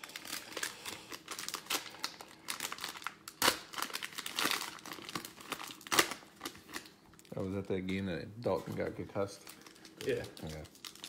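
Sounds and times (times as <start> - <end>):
foil wrapper crinkling and tearing: 0.0 - 7.5, 8.5 - 11.0.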